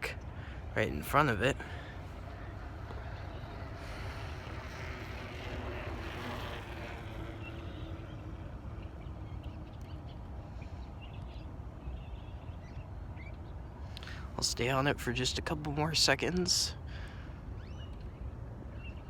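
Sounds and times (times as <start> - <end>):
distant jet engines: 0.0 - 19.0.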